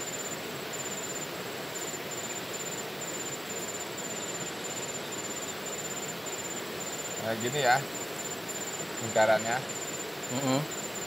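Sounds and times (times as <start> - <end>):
cricket chirping: 0.0 - 11.0
steady outdoor hiss: 0.0 - 11.0.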